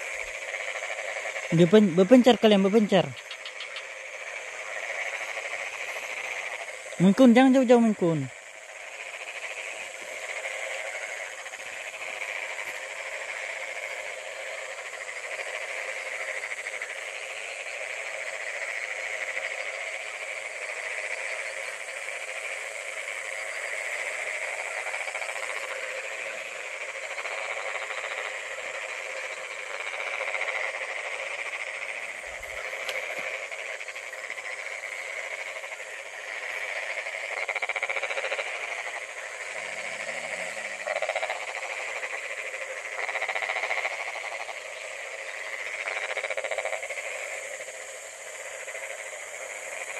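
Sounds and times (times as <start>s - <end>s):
frogs calling: 0.0s - 49.9s
insects calling: 0.0s - 49.9s.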